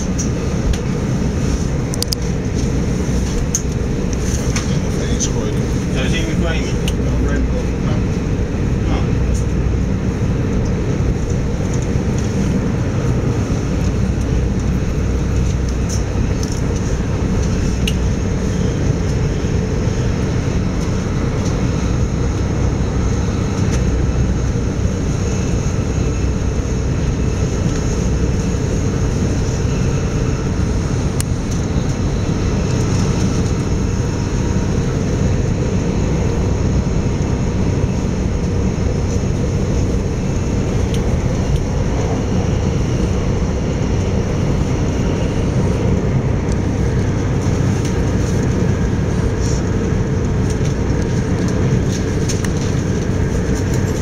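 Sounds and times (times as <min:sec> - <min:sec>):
electric train running at speed: 0:00.0 - 0:54.0.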